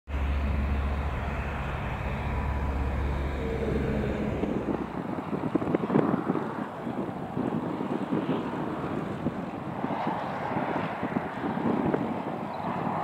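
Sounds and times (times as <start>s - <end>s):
light aircraft droning past: 0.1s - 13.0s
wind buffeting microphone: 0.1s - 13.0s.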